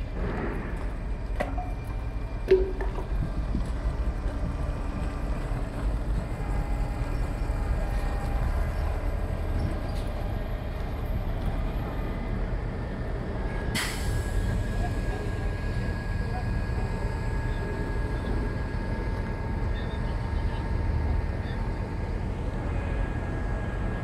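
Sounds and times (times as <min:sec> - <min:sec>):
truck engine low rumble: 0:00.0 - 0:24.0.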